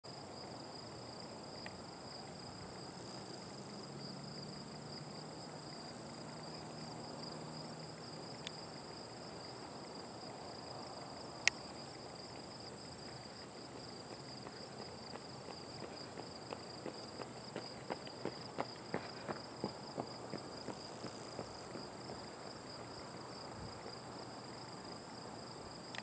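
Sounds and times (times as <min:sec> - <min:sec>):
insects chorus: 0:00.1 - 0:26.0.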